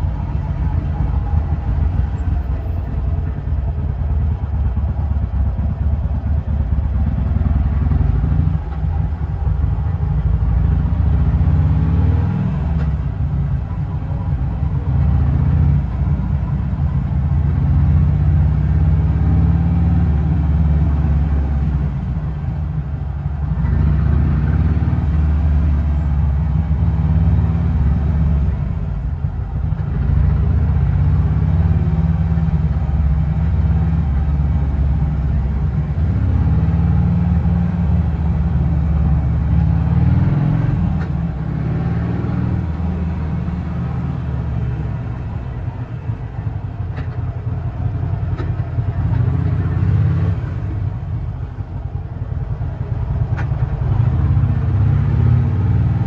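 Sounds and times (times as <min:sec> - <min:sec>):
motorcycle engine rumbling: 0:00.0 - 0:56.0.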